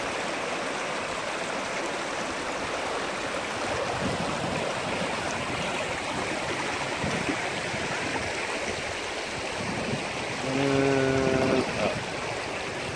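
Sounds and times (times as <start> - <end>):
stream running over stones: 0.0 - 12.9.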